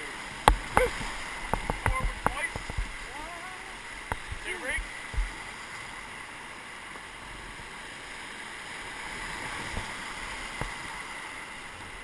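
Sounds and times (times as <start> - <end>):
river whitewater rushing: 0.0 - 12.0.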